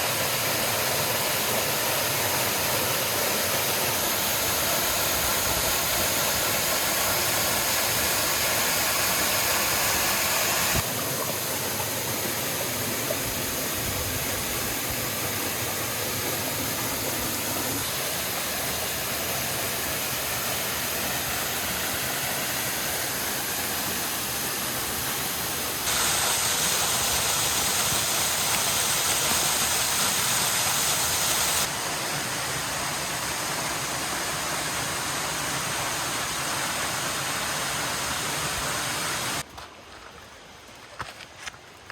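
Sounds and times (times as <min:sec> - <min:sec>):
rushing water: 0:00.0 - 0:41.1.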